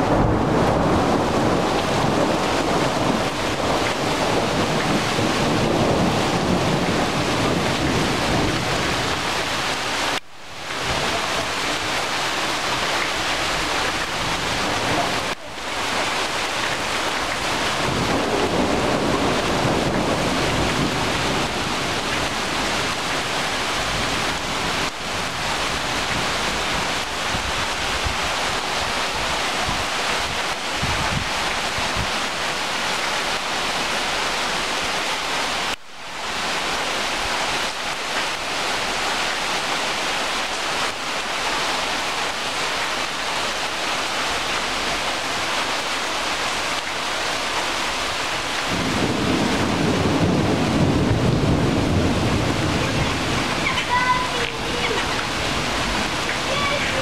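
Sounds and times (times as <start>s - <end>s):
heavy rain on trees and ground: 0.0s - 57.0s.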